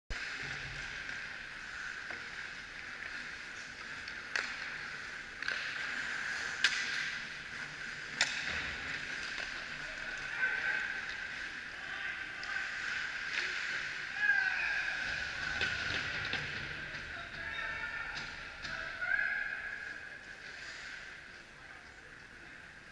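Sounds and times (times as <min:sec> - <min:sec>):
hockey sticks and puck clacking: 0:00.1 - 0:19.1.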